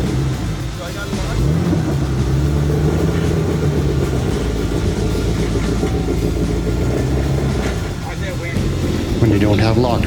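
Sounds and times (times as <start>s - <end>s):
vehicle engine idling low hum: 0.0s - 10.0s.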